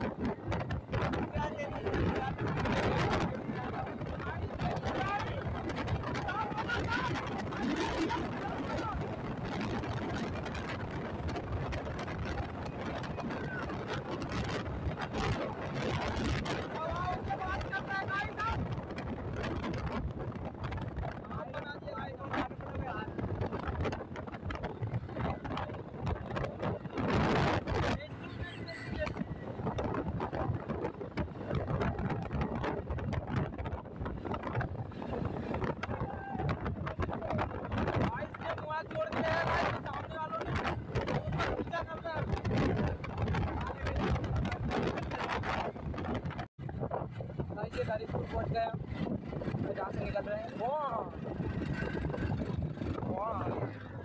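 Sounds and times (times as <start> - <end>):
wind buffeting on microphone: 0.0 - 54.0.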